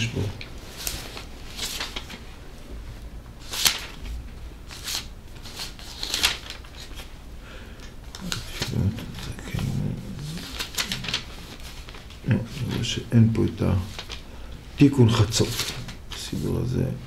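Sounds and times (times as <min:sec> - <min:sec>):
book pages rustling: 0:00.0 - 0:02.4, 0:03.4 - 0:07.2, 0:07.8 - 0:14.3, 0:15.0 - 0:16.7.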